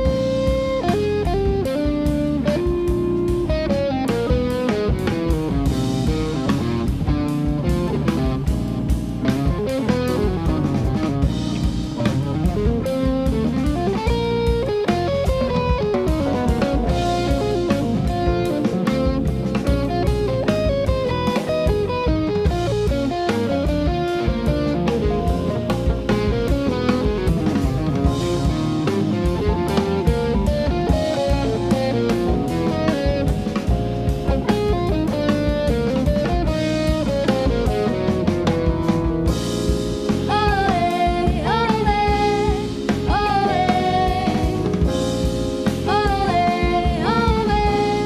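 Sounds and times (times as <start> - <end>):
electric guitar melody: 0.0 - 48.0
jazz band playing: 0.0 - 48.0.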